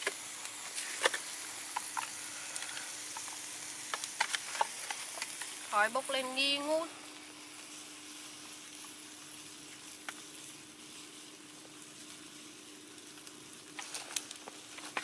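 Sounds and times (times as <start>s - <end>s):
faint steady hum: 0.0s - 15.0s
prawns sizzling on grill: 0.0s - 15.0s.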